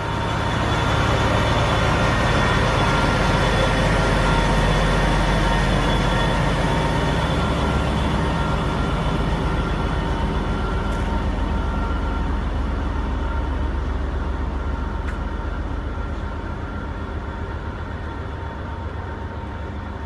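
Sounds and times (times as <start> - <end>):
diesel locomotive rolling past: 0.0 - 20.0.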